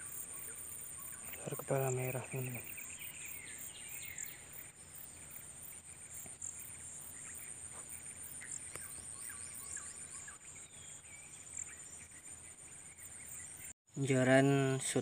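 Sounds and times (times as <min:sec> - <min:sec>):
insects chirping: 0:00.0 - 0:13.8.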